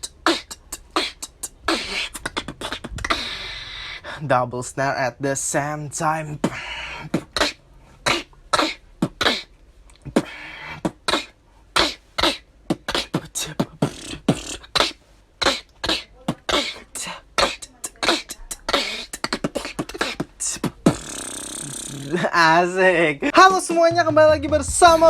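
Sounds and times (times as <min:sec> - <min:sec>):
person beatboxing: 0:00.0 - 0:04.2, 0:05.6 - 0:22.4, 0:23.3 - 0:25.0.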